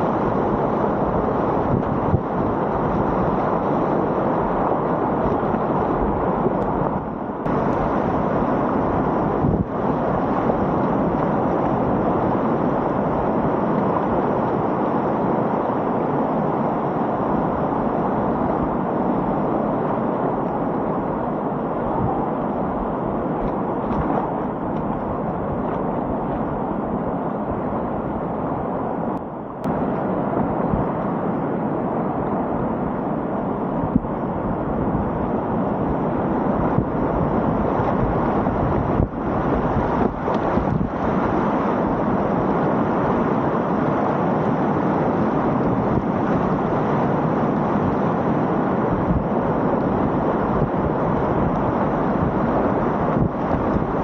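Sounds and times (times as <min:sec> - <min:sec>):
whitewater river rushing: 0:00.0 - 0:54.0.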